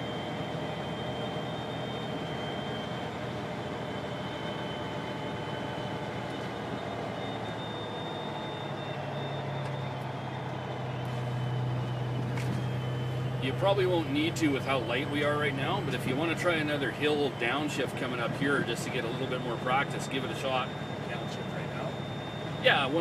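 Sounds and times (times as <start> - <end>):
road and tyre noise: 0.0 - 23.0
truck diesel engine running: 0.0 - 23.0.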